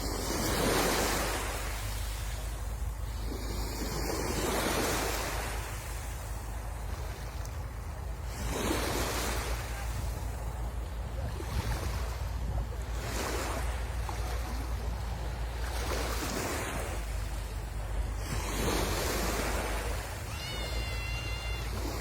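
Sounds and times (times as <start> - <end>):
wind rumble on microphone: 0.0 - 20.3
sea waves breaking on shore: 0.0 - 22.0.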